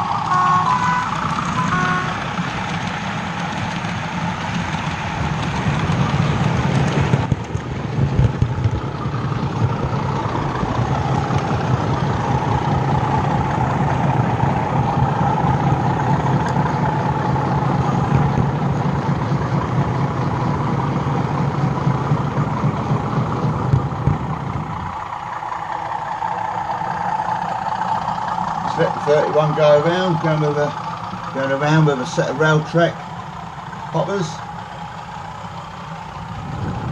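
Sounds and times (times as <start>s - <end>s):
model train diesel engine sound: 0.0s - 36.9s.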